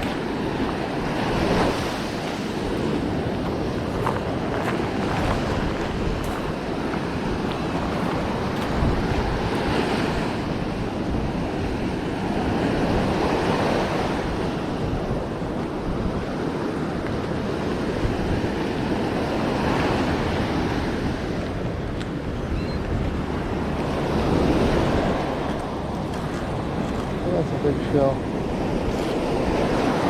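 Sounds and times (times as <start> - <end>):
ocean surf washing ashore: 0.0 - 30.0
wind on microphone: 0.0 - 30.0.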